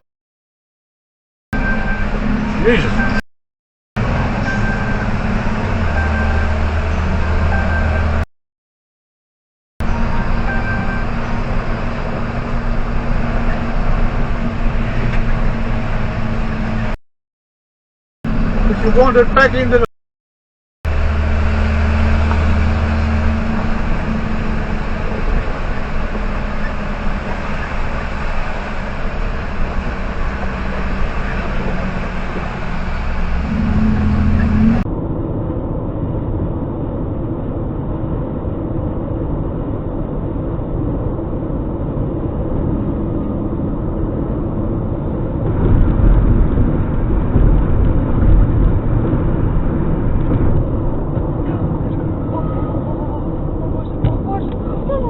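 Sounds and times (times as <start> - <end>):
vehicle engine and road rumble: 1.6 - 3.2, 4.0 - 8.3, 9.8 - 17.0, 18.2 - 19.9, 20.9 - 55.0.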